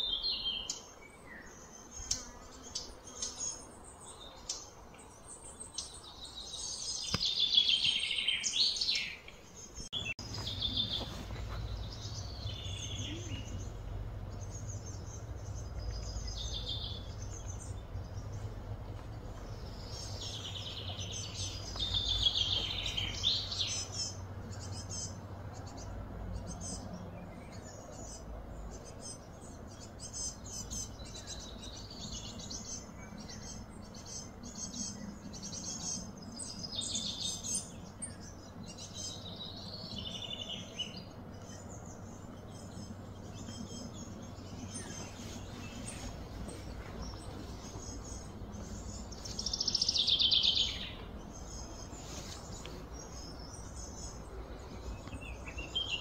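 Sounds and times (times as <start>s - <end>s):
birds chirping and singing: 0.0s - 56.0s
low background rumble: 9.5s - 56.0s.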